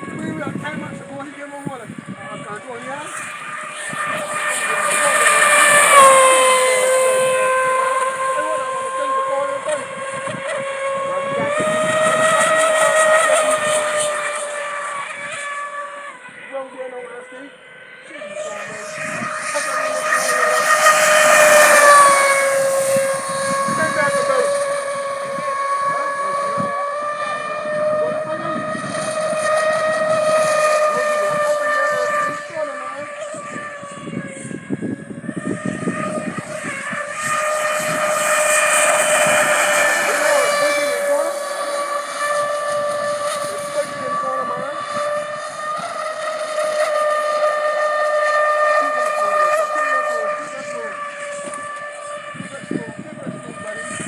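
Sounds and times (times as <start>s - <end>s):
model speedboat motor whining: 0.0s - 54.0s.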